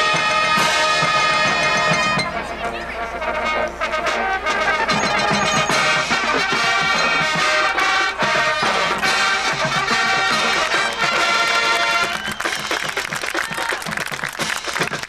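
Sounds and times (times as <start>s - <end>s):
brass held notes: 0.0s - 12.3s
marching band playing: 0.0s - 15.0s.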